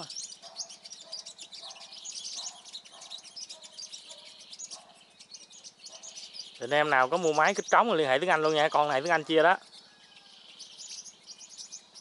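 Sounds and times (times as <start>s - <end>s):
sunbirds chirping and twittering: 0.0s - 12.0s.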